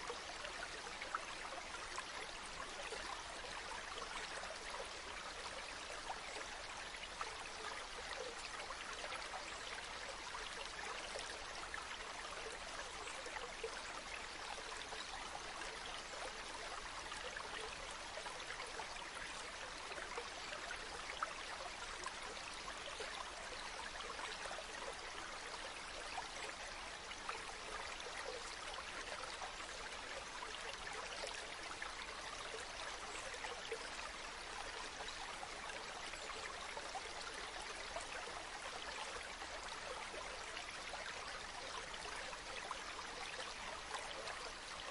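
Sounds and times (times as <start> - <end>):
stream flowing over rocks: 0.0 - 44.9.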